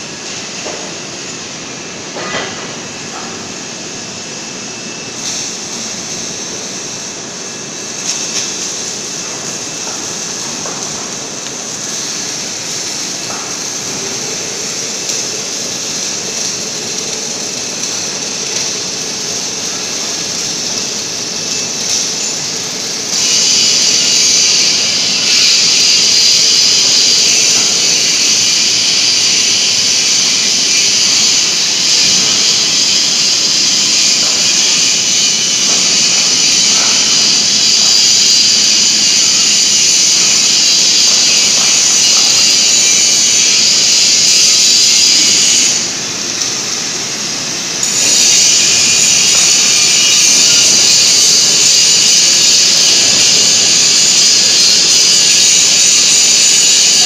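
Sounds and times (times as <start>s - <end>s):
welding machine hissing: 0.0s - 57.0s.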